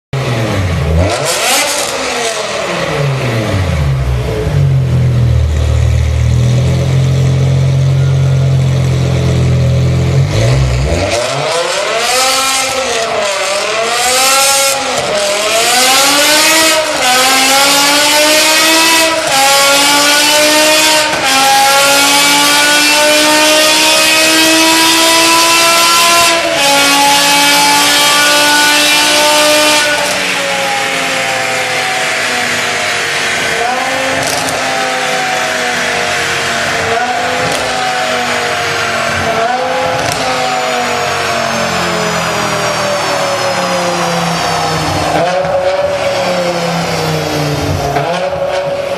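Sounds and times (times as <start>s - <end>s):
car engine revving and accelerating: 0.2s - 48.9s.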